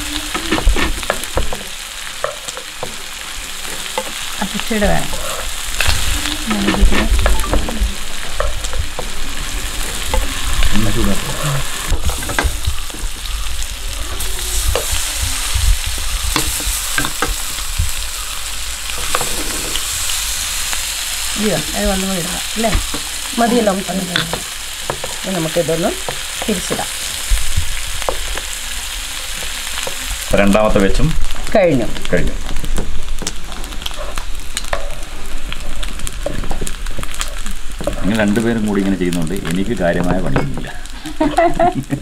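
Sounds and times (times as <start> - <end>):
mussels sizzling in hot oil: 0.0 - 42.0.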